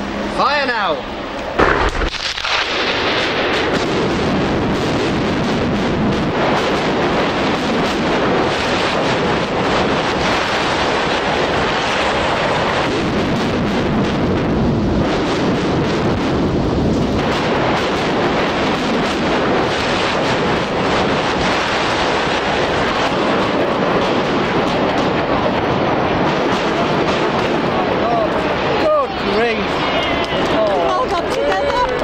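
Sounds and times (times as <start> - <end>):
demolition charges cracking: 1.6 - 31.1
roar of collapsing concrete: 1.6 - 32.0.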